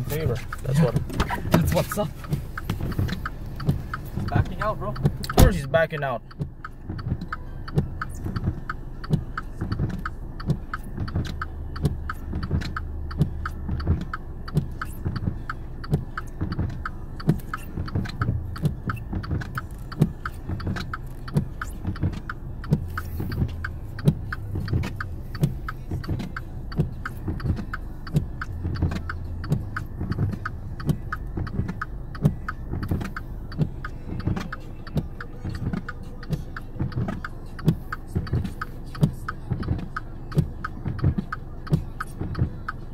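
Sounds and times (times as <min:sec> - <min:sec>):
car engine rumble: 0:00.0 - 0:42.9
fast even ticking: 0:00.0 - 0:42.9.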